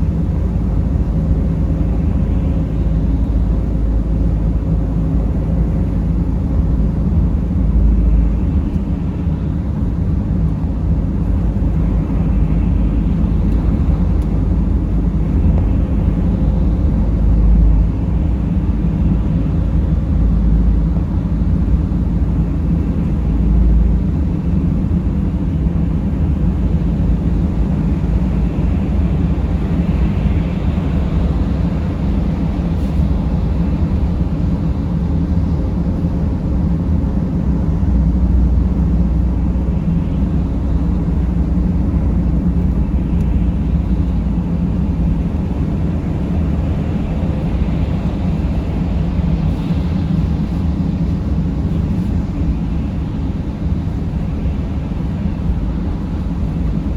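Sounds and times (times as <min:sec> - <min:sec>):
van engine and road noise: 0:00.0 - 0:56.9.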